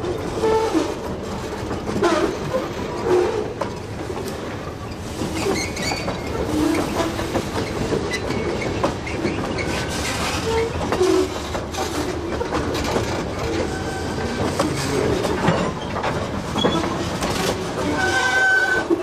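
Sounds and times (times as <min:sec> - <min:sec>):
freight train rumbling on rails: 0:00.0 - 0:19.0
train clicks and clanks: 0:00.0 - 0:19.0
train wheel squeals: 0:00.3 - 0:01.1, 0:02.0 - 0:03.8, 0:04.8 - 0:19.0.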